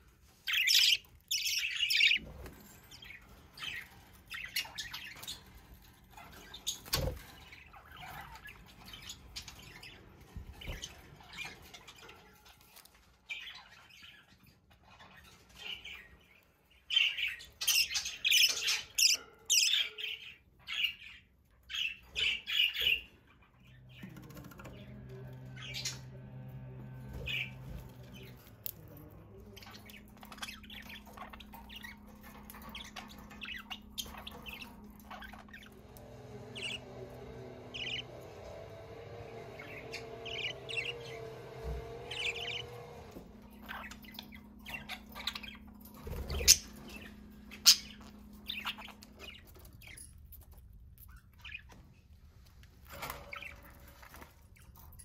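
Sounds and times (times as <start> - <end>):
budgerigars chirping and squawking: 0.0 - 55.0
low steady hum: 0.0 - 55.0.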